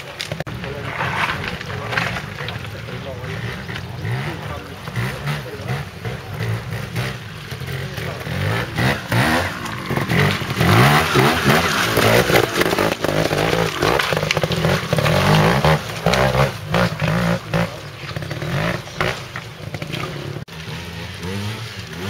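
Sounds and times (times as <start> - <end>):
motorcycle clattering on stones: 0.0 - 20.6
motorcycle engine revving: 0.0 - 22.0.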